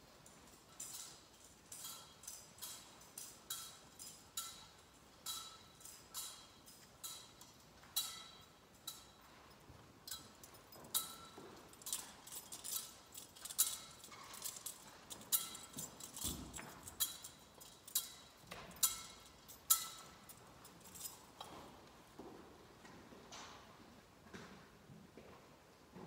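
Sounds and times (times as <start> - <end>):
censer clinking against chains: 0.0 - 21.9.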